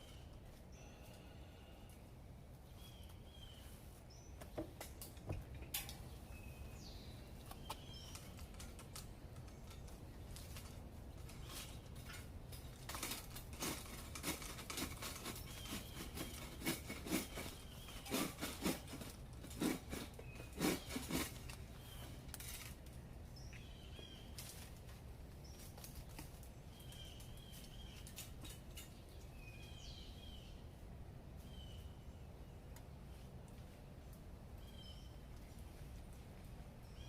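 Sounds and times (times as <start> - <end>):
steady low background noise: 0.0 - 37.0.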